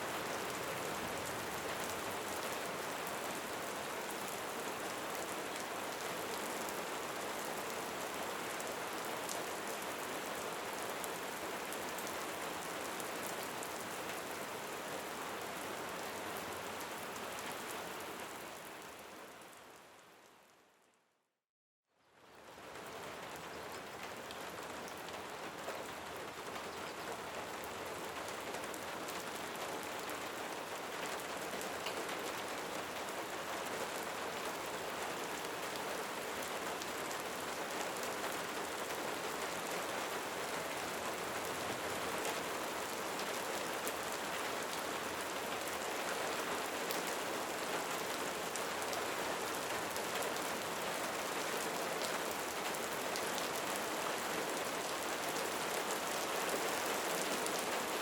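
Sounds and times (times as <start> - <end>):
steady rain hiss: 0.0 - 20.6, 22.3 - 58.0.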